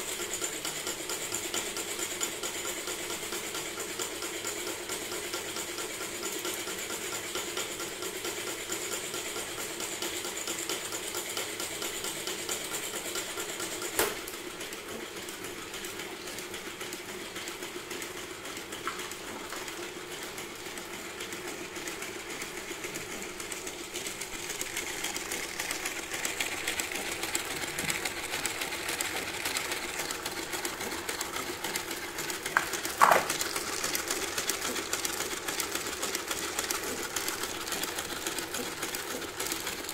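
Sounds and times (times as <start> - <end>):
engine model mechanical clatter: 0.0 - 39.9.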